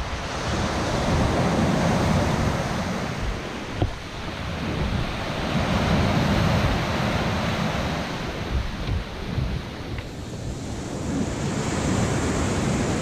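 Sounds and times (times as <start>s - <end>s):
surf rushing: 0.0s - 13.0s
wind buffeting microphone: 0.0s - 13.0s.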